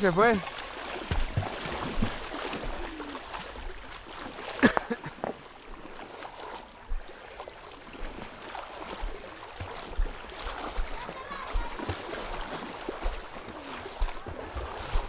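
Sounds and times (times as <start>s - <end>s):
river water splashing: 0.0s - 15.0s.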